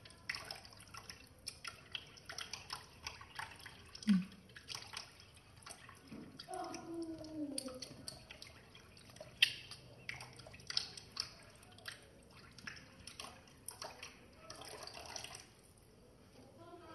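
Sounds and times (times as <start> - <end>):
tap water splashing and dripping: 0.0 - 15.6.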